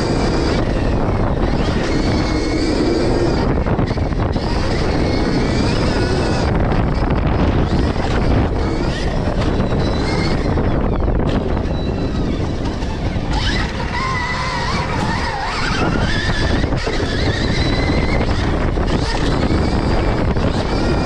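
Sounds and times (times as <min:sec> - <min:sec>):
electric motor whine: 0:00.0 - 0:21.0
wind rush on microphone: 0:00.0 - 0:21.0.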